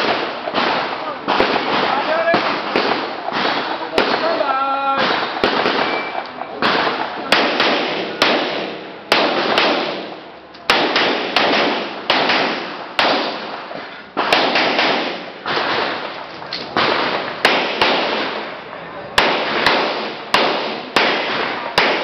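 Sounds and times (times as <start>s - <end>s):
handgun shots echoing: 0.0s - 13.6s, 14.2s - 18.5s, 19.2s - 22.0s.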